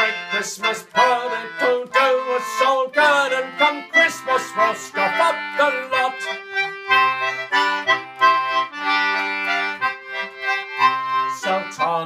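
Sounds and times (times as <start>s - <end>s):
concertina playing chords: 0.0s - 12.0s.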